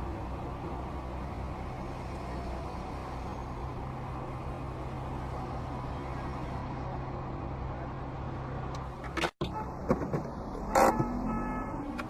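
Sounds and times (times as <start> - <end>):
car engine hum: 0.0 - 12.0
road traffic noise: 0.0 - 12.0.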